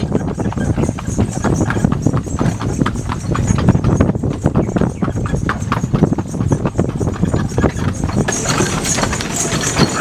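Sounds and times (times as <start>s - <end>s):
carriage low rumble: 0.0s - 10.0s
horse hooves clip-clopping on pavement: 0.0s - 10.0s.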